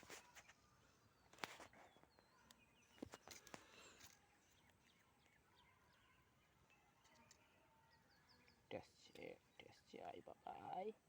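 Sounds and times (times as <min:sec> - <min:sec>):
faint bird chirps: 0:00.0 - 0:09.9.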